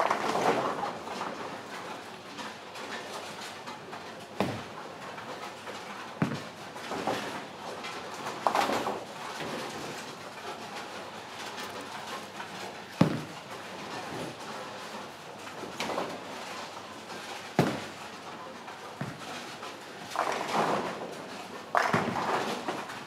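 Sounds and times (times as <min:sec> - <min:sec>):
bowling pins clattering: 0:03.3 - 0:23.0
bowling balls rolling: 0:03.9 - 0:23.0.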